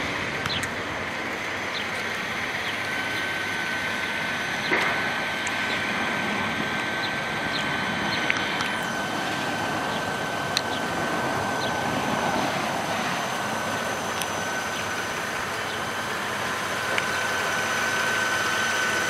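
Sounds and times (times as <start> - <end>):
motor vehicle noise: 0.0 - 19.0
thin high whine: 0.0 - 19.0.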